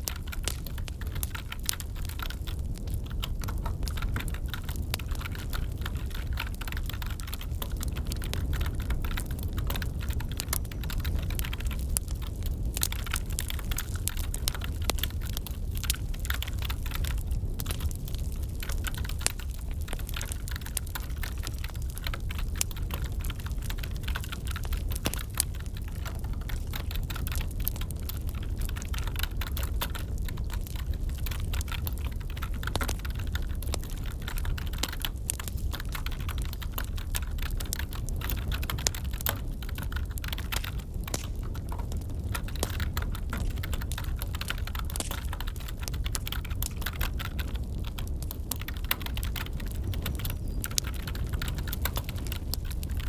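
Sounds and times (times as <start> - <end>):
crackling wood fire: 0.0 - 53.0.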